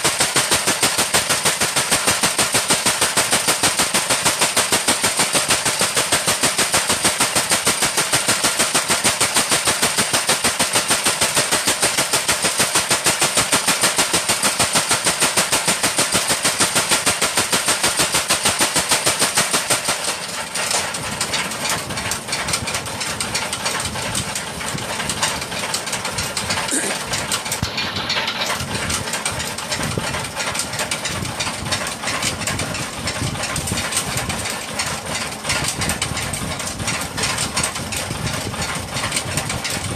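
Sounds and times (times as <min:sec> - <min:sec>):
engine running with knocks: 0:00.0 - 0:39.9
power hammer pounding: 0:00.0 - 0:39.9.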